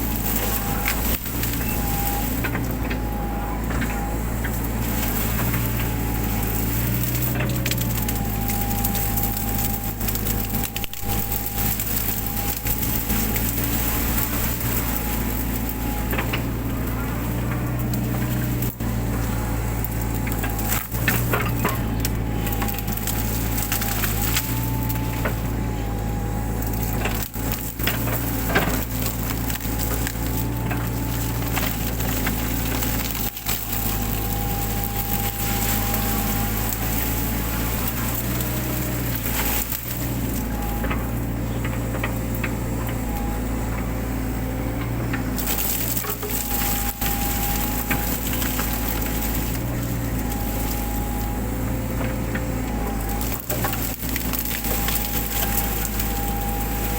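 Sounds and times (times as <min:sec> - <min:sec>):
brush cracking and snapping: 0:00.0 - 0:56.9
excavator diesel engine whining: 0:00.0 - 0:56.9.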